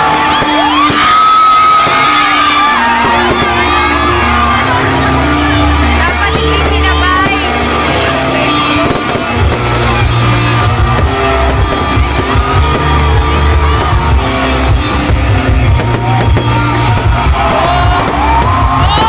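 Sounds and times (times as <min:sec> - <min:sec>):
loud rock music: 0:00.0 - 0:19.0.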